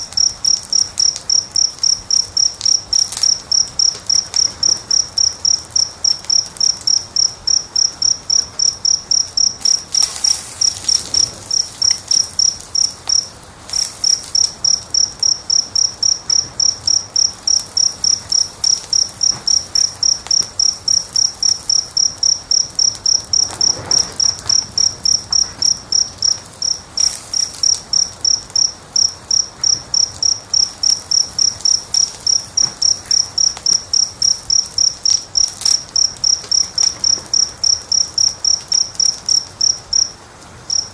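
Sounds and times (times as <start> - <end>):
cricket chirping: 0.0 - 40.9
wood fire crackling: 0.0 - 40.9.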